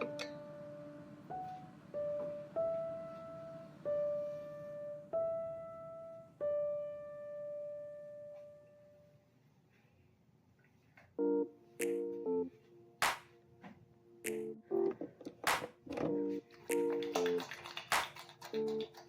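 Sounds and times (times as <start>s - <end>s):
slow piano melody: 0.0s - 9.4s, 11.2s - 19.0s.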